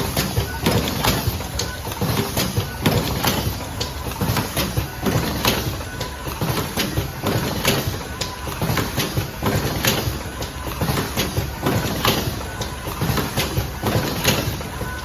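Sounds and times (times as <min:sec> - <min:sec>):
machine strokes clacking: 0:00.0 - 0:15.0
steady machine noise: 0:00.0 - 0:15.0.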